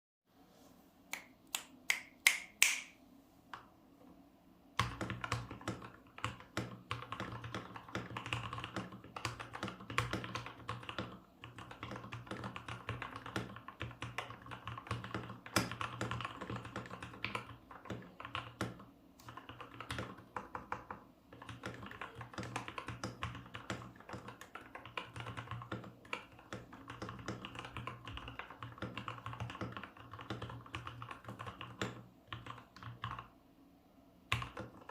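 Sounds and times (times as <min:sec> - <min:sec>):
typing on mechanical keyboard: 0:04.8 - 0:33.3, 0:34.3 - 0:34.9.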